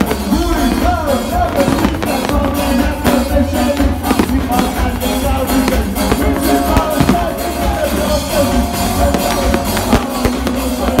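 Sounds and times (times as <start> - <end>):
loud live band with drums: 0.0 - 11.0.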